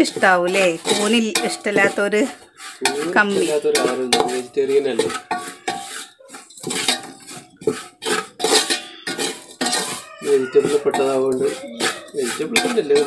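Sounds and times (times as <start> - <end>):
metal spoon scraping pot: 0.0 - 13.0.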